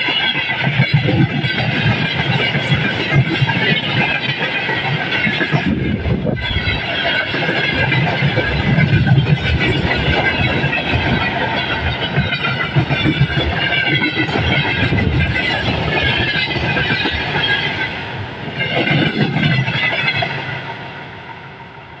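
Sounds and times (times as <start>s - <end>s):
train wheels clattering on rails: 0.0s - 22.0s
metallic wheel squeal: 0.1s - 17.8s.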